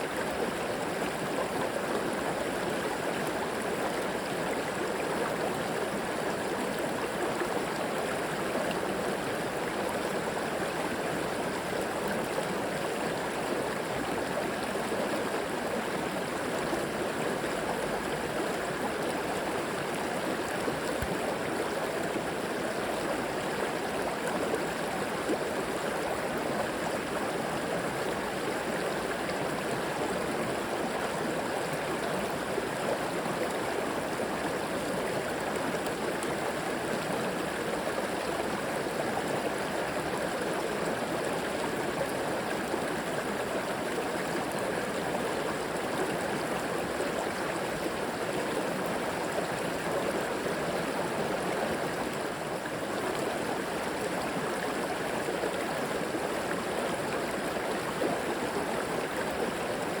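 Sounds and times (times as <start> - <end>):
water flowing over rocks: 0.0 - 60.0.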